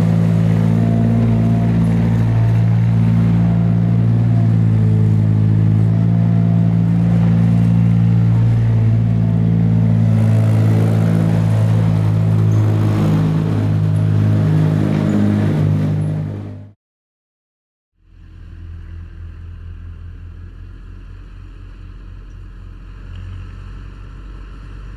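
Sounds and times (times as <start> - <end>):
tractor engine running: 0.0 - 16.7, 18.2 - 24.9.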